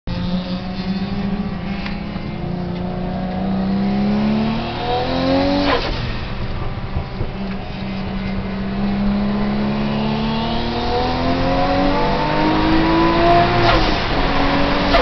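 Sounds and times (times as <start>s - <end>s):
car engine accelerating: 0.1s - 15.0s.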